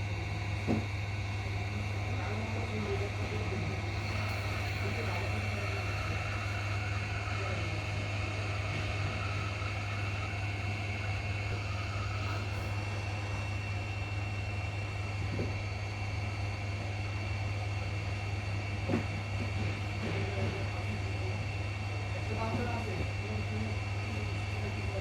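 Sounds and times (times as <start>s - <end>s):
equipment hum with high whine: 0.0s - 25.0s.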